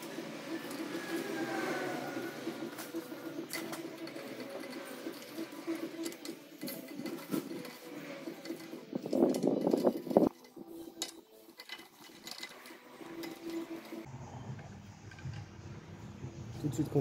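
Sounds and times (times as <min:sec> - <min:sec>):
metallic clicks and scrapes of nuts: 0:00.0 - 0:14.1
workshop hum: 0:00.0 - 0:17.0.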